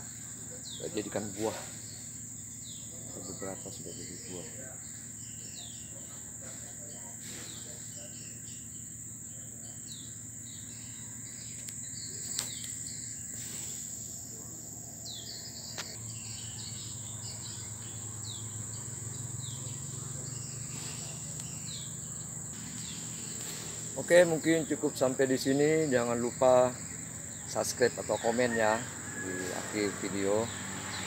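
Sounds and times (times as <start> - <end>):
high-pitched insect drone: 0.0 - 31.0
small birds chirping: 0.0 - 31.0.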